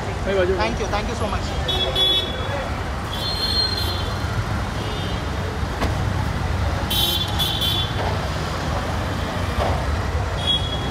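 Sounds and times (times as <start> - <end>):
road traffic rumble: 0.0 - 10.9.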